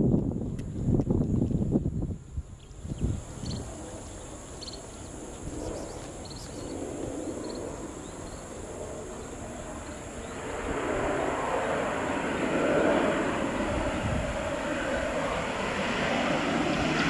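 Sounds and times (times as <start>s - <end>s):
outdoor background noise: 0.0s - 17.0s
turboprop plane engine and propeller: 0.0s - 17.0s.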